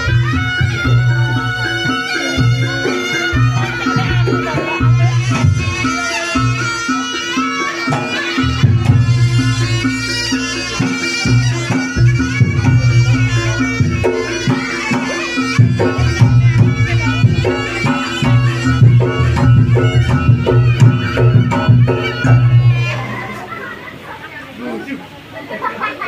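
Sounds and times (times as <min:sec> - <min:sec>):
drum strokes: 0:00.0 - 0:24.0
nasal reed melody: 0:00.0 - 0:25.3.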